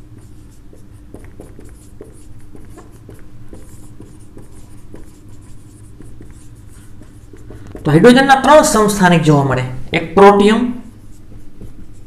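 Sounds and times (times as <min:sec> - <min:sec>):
marker scratching on whiteboard: 0:00.0 - 0:09.0, 0:10.9 - 0:12.0
steady low hum: 0:00.0 - 0:12.0.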